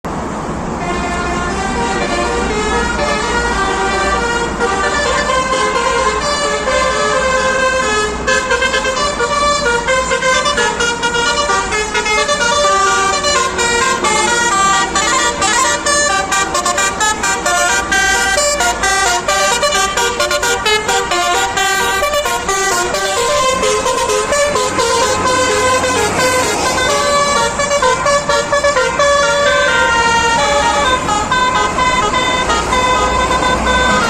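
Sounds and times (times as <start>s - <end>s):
multi-tone vehicle horn melody: 0.8s - 34.0s.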